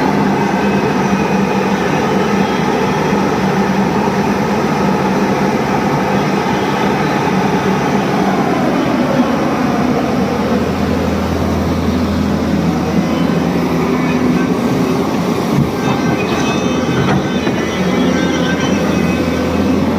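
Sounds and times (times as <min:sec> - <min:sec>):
excavator diesel engine drone: 0:00.0 - 0:19.9.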